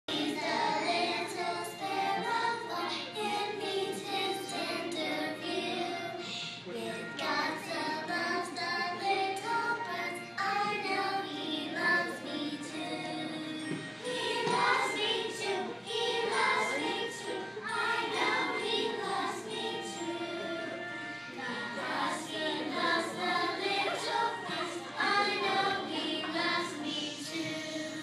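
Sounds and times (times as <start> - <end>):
children singing in unison: 0.1 - 28.0.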